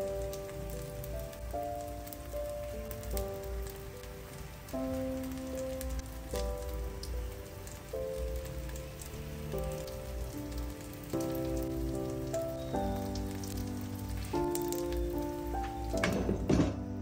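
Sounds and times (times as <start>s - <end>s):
food sizzling in a pan: 0.0s - 16.6s
slow chord music: 0.0s - 17.0s.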